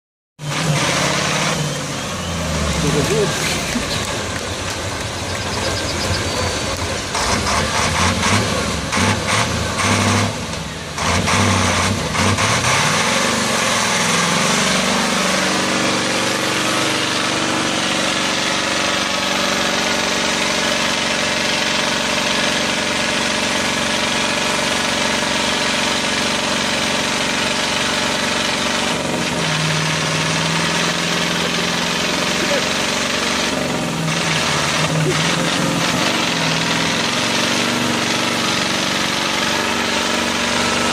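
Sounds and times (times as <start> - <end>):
heavy truck engine running: 0.4 - 40.9.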